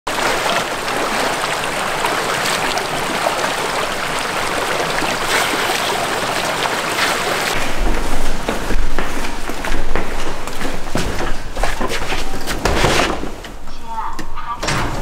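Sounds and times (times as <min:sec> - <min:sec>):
running water rushing: 0:00.1 - 0:12.3.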